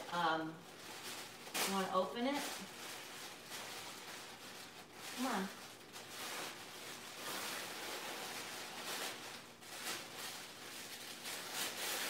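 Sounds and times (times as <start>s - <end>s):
tissue paper rustling and crinkling: 0.0s - 12.0s.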